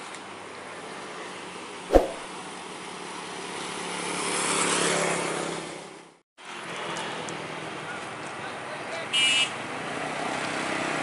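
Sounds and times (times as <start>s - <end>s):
road traffic noise: 0.3s - 11.0s.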